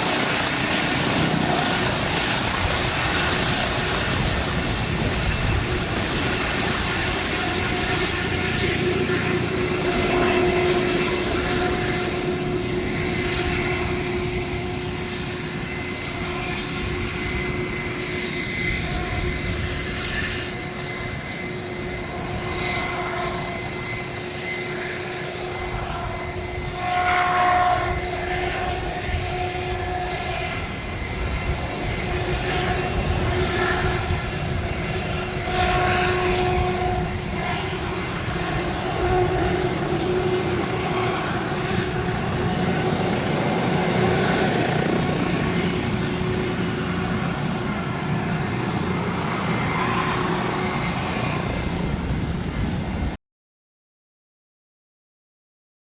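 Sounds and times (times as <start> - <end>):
aircraft engine running: 0.0 - 53.2.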